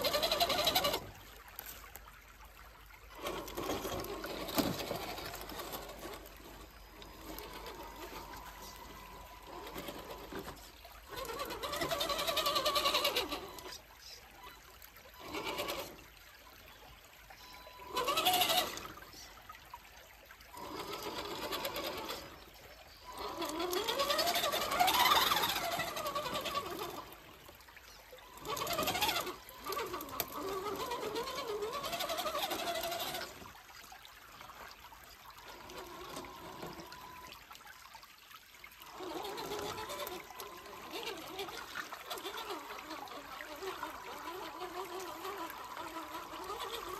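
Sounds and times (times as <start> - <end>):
toy truck motor whine: 0.0 - 1.8, 2.9 - 13.9, 14.5 - 19.4, 20.4 - 33.6, 35.4 - 37.4, 38.8 - 46.9
water trickling: 0.0 - 46.9.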